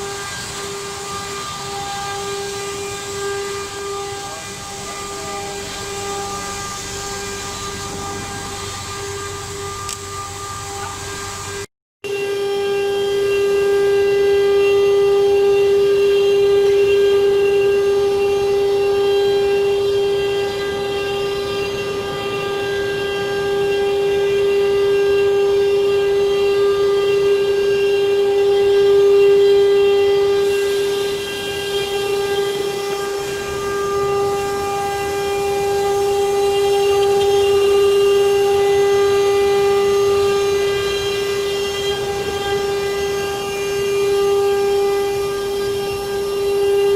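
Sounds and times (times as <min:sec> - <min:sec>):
wood router spindle whine: 0:00.0 - 0:46.9.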